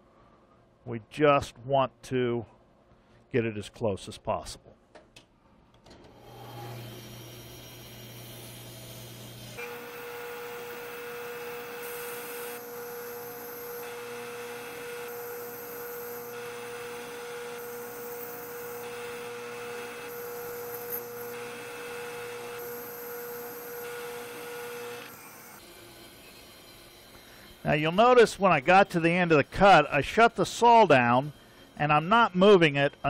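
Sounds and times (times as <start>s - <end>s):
bandsaw cutting wood: 6.1s - 33.0s.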